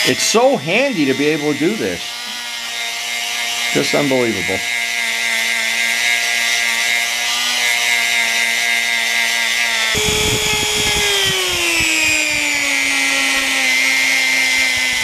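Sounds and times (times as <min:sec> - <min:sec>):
rotary tool whining: 0:00.0 - 0:15.0.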